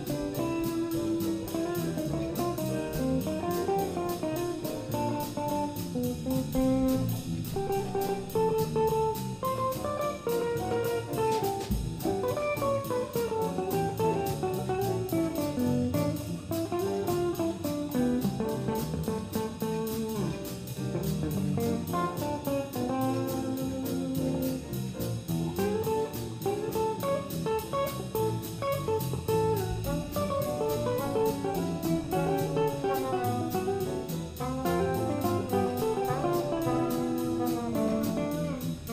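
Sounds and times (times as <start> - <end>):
bass: 0.0 - 38.9
drums with steady cymbal beat: 0.0 - 38.9
piano: 0.0 - 38.9.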